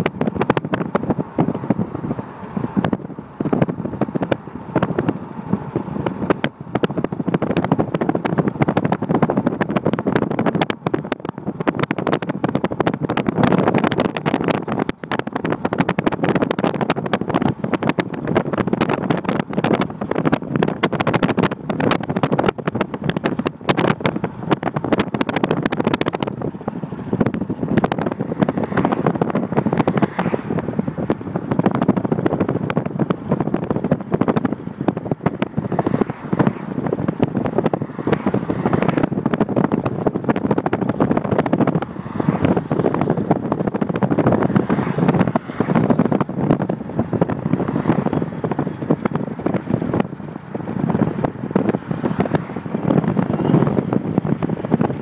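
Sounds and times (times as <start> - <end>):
car road and wind noise: 0.0 - 55.0
wind buffeting the microphone: 0.0 - 55.0.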